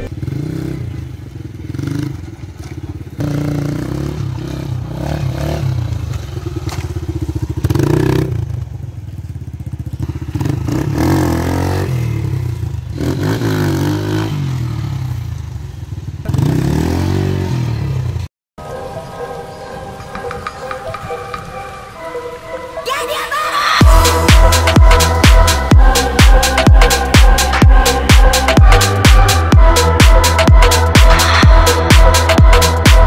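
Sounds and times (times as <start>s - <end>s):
motorcycle engine revving: 0.0s - 18.3s, 23.8s - 33.0s.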